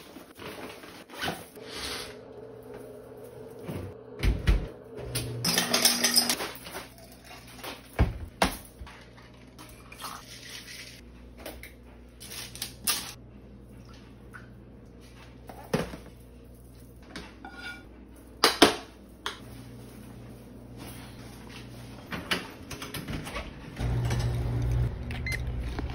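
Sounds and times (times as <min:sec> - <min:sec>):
low background hum: 0:00.1 - 0:25.9.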